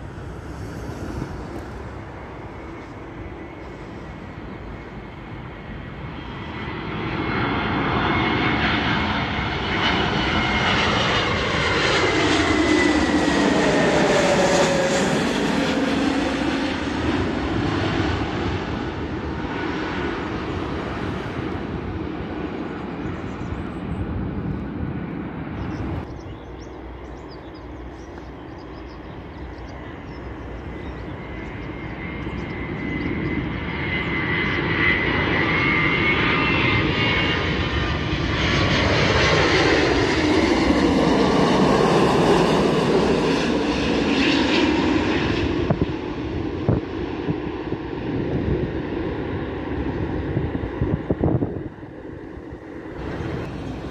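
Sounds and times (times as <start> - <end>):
jet airliner engines overhead: 0.0 - 53.9.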